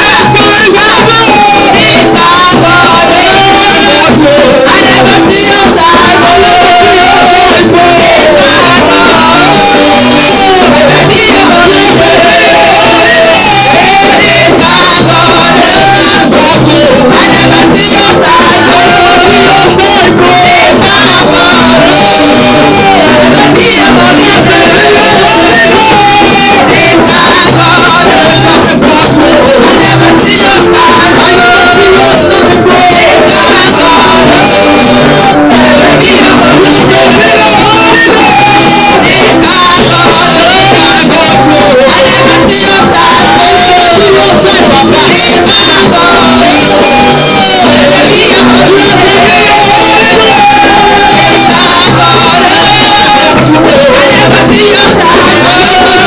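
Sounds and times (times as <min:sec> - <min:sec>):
electronic keyboard: 0:00.0 - 0:56.0
steady beat: 0:00.0 - 0:56.0
women singing: 0:00.0 - 0:56.0.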